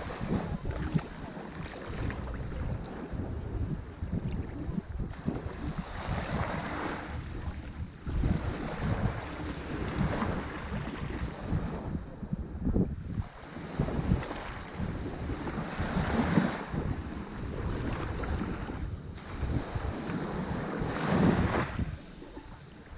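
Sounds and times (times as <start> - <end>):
ocean waves breaking on shore: 0.0 - 22.9
wind buffeting microphone: 0.0 - 22.9.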